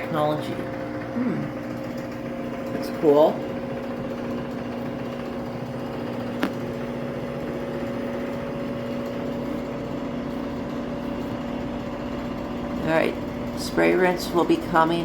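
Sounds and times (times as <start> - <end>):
washing machine drum spinning: 0.0 - 15.0.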